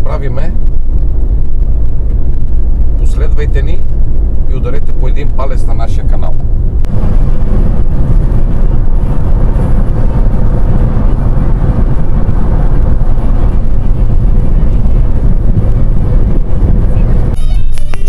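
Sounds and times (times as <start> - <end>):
van road and engine rumble: 0.0 - 18.0.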